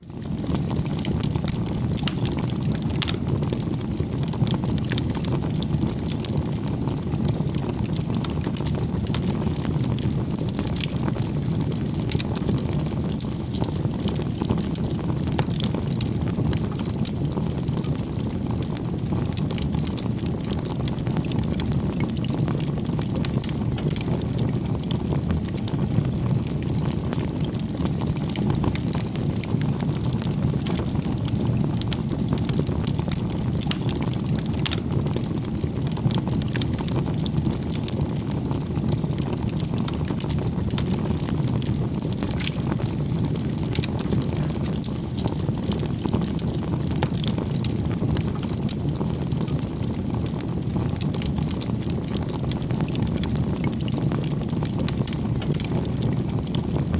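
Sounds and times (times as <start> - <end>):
fire crackles and pops: 0.0 - 56.9
wood fire roaring: 0.0 - 56.9.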